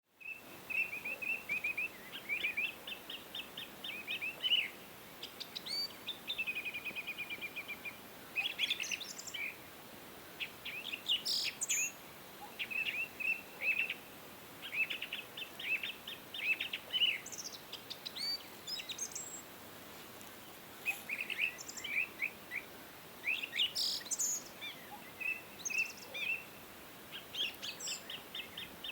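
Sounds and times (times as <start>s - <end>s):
faint steady hiss: 0.0s - 28.9s.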